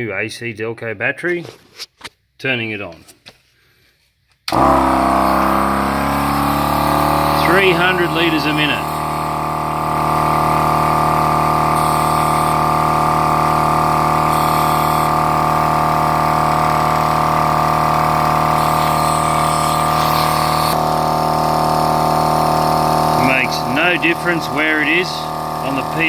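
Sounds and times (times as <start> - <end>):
portable air compressor running: 4.5 - 26.0.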